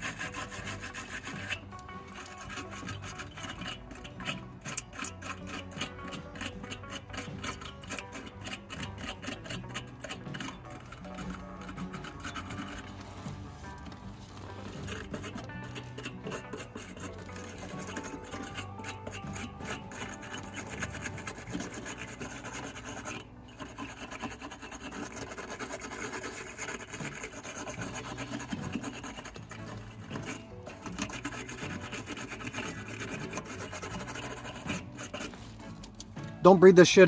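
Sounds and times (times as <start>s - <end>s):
wire brush scrubbing metal: 0.0s - 37.0s.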